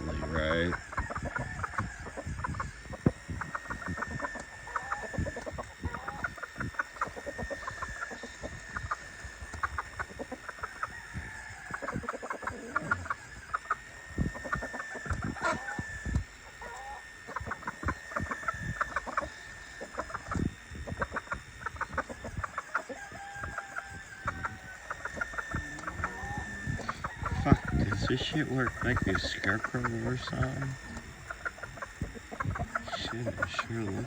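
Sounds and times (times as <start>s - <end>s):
chickens clucking: 0.0s - 34.0s
thin high whine: 0.0s - 34.0s.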